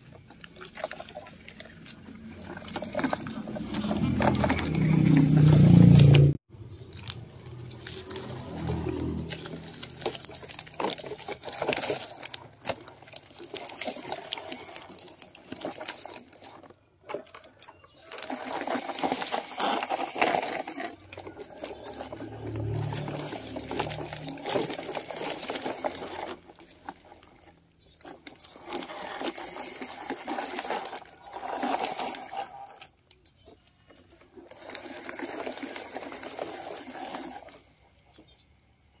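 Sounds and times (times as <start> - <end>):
toy trucks rattling over gravel: 0.0 - 38.7.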